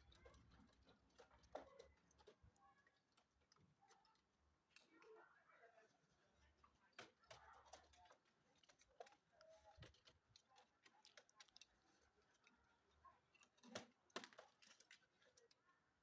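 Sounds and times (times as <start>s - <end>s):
faint clicks and taps: 0.0s - 16.0s.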